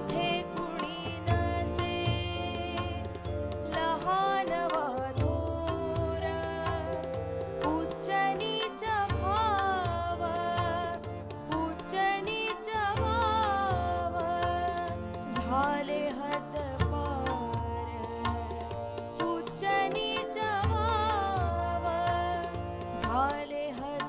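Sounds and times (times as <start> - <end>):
devotional song: 0.0 - 24.0.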